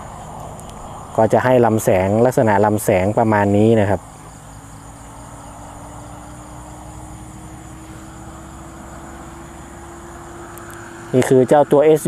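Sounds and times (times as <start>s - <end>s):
distant engine running: 0.0s - 12.0s
insects chirring: 0.0s - 12.0s.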